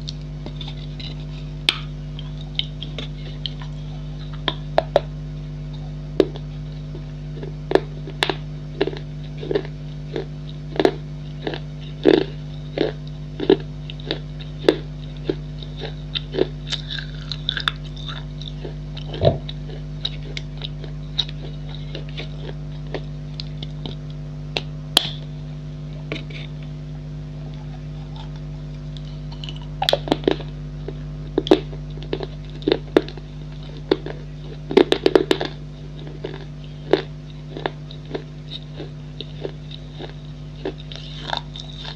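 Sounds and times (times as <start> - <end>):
crunchy chewing: 0.0 - 41.9
electrical hum: 0.0 - 41.9.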